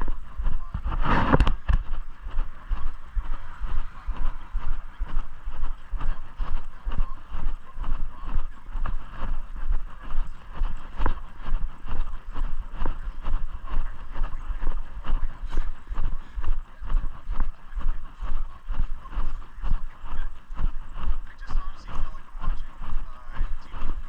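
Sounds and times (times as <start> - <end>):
footsteps walking: 0.0 - 24.0
handheld microphone jostling: 0.0 - 24.0.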